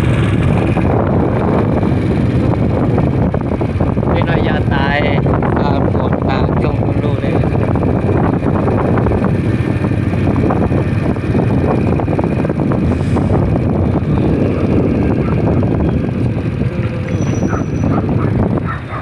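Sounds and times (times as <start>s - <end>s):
scooter engine running: 0.0s - 19.0s
wind rumble on microphone: 0.0s - 19.0s.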